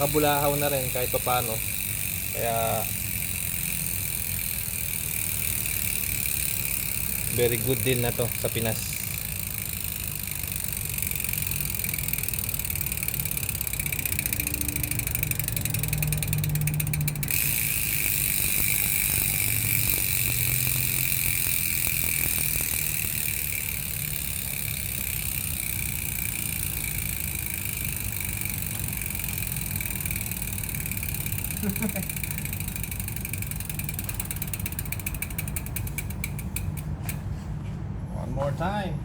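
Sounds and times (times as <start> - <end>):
bicycle hub freewheeling buzz: 0.0 - 37.4.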